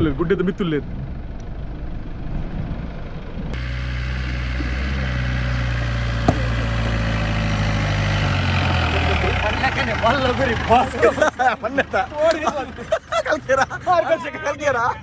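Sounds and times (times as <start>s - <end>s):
pickup engine running: 0.0s - 14.8s.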